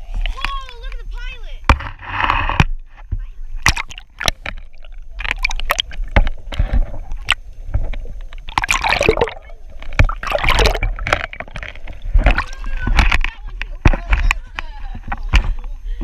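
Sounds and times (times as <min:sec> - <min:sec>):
water splashing and sloshing: 0:01.7 - 0:15.7.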